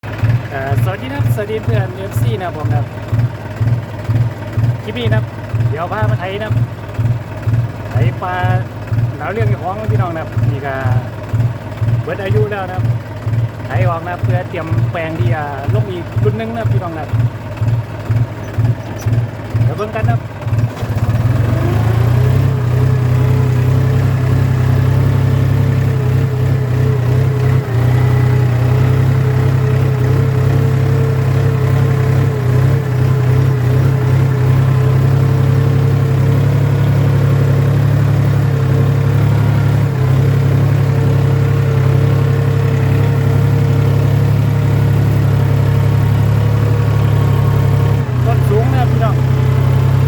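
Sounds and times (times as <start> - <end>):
tractor engine droning with whine: 0.0 - 50.0.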